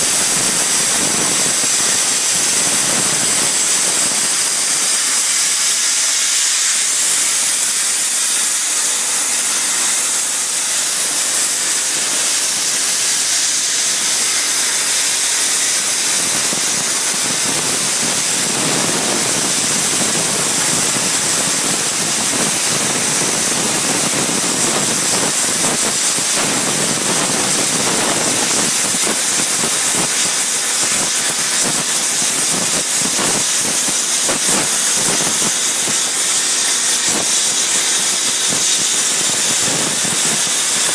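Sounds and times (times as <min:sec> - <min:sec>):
plasma torch cutting steel: 0:00.0 - 0:40.9.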